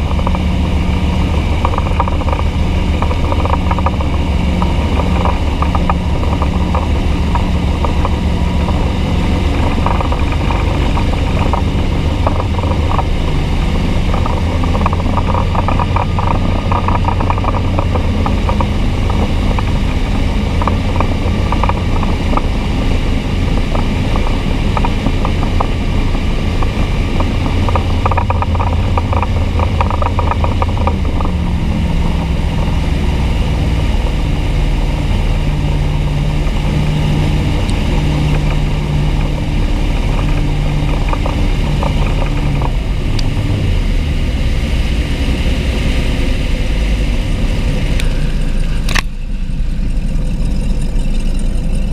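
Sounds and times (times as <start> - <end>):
boat engine running: 0.0 - 51.9
exhaust water splashing: 0.0 - 51.9.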